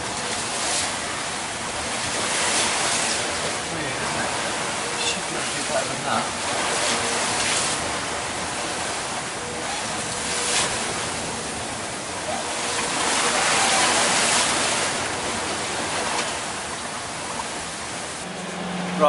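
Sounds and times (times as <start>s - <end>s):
sea water rushing past hull: 0.0s - 19.0s
wind: 0.0s - 19.0s.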